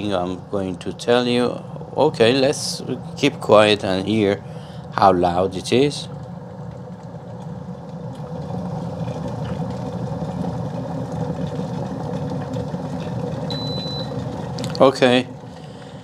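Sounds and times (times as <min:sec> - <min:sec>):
kettle water boiling: 0:00.0 - 0:16.0.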